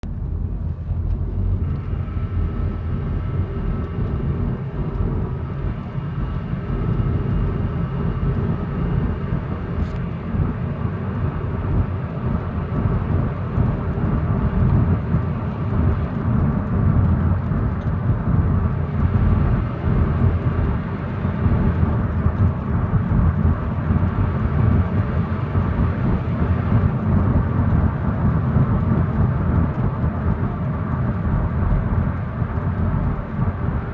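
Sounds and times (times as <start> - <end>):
car engine rumbling: 0.0 - 33.9
faint steady whine: 0.0 - 33.9.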